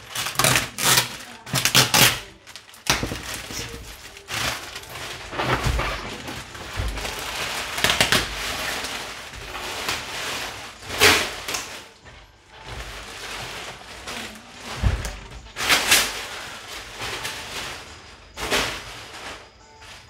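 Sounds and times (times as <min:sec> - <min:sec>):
loud plastic crackles: 0:00.0 - 0:20.0
plastic sheeting crinkling: 0:00.0 - 0:20.0.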